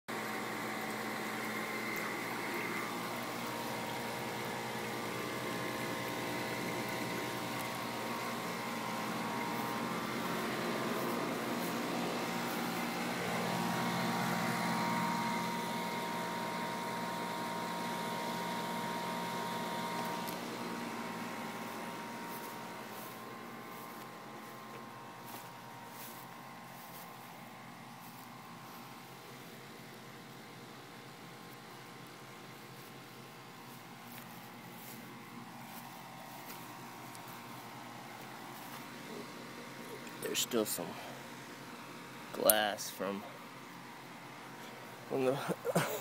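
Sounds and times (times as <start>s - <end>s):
mechanical hum with held tones: 0.1s - 46.0s.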